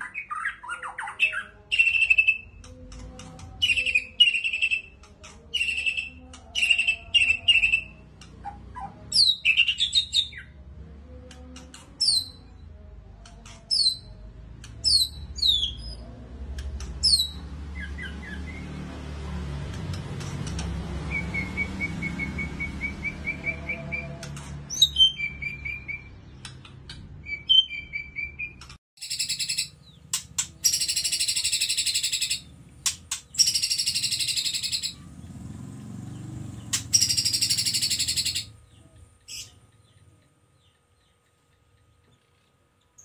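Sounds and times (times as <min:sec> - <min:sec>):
songbird singing: 0:00.0 - 0:43.0.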